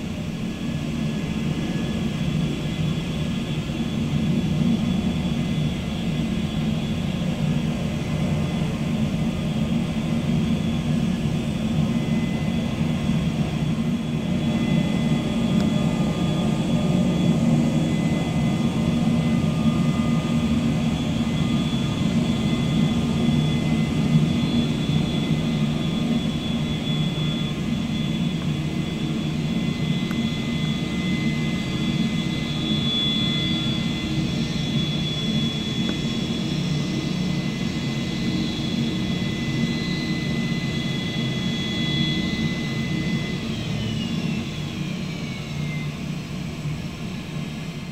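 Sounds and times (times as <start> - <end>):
jet engines rumbling with whine: 0.0 - 47.9.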